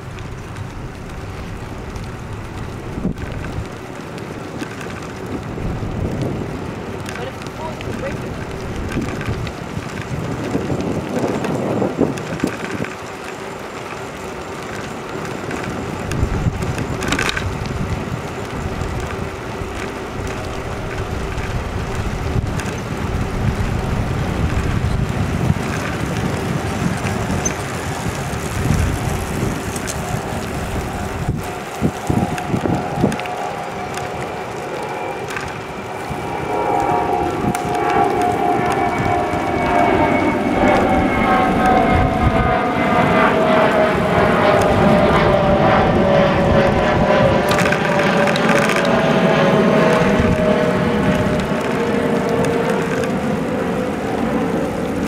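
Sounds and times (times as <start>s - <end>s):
bicycle tyres rolling on asphalt: 0.0s - 55.0s
wind buffeting the microphone: 0.0s - 55.0s.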